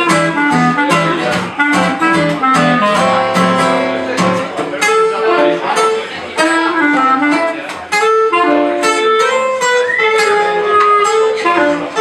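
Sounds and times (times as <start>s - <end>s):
acoustic guitar chords: 0.0s - 12.0s
clarinet melody: 0.0s - 12.0s.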